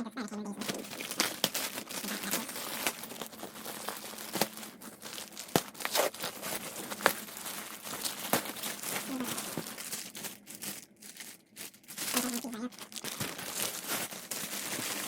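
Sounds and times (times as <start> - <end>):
packaging crinkling and tearing: 0.6 - 15.0.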